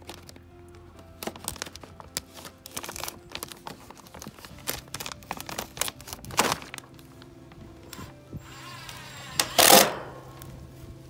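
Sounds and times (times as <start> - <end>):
plastic film crinkling and crackling: 0.0 - 9.0, 9.6 - 11.0.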